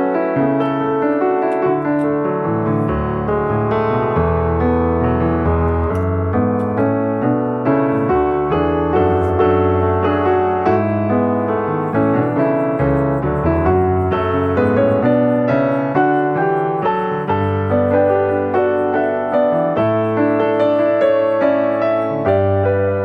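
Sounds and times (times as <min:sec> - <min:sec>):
background piano music: 0:00.0 - 0:23.0.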